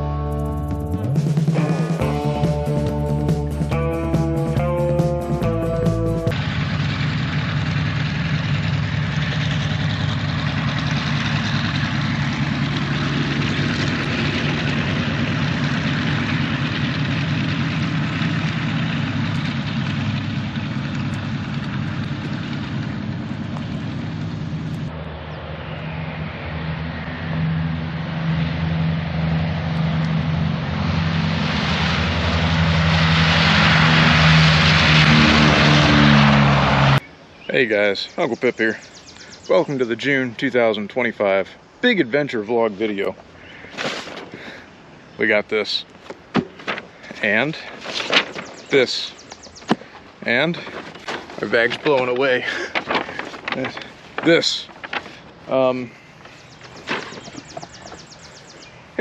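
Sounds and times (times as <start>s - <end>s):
aircraft engines droning: 0.0s - 59.0s.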